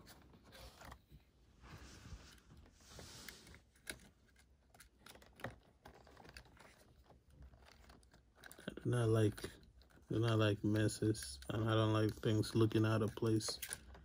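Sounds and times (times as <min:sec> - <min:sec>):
wires rustling: 0:00.0 - 0:14.0.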